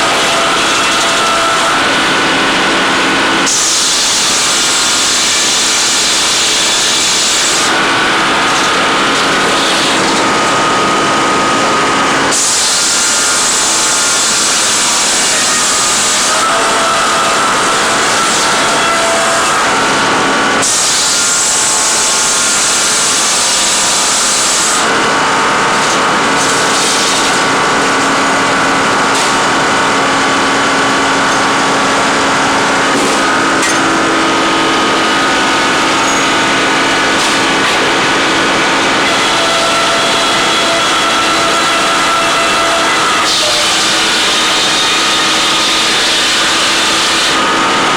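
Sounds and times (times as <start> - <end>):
logging machinery sawing wood: 0.0 - 47.9.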